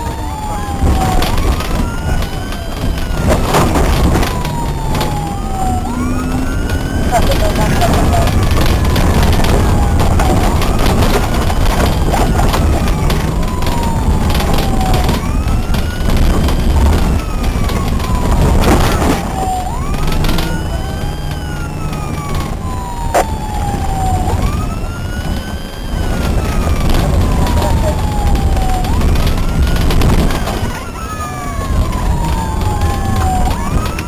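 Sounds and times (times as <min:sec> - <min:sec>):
engine and road rumble: 0:00.0 - 0:34.0
police siren wailing: 0:00.0 - 0:34.0.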